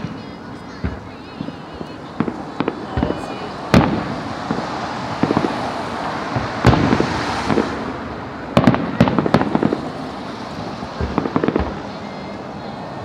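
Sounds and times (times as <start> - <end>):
sharp firework bangs: 0.0 - 12.4.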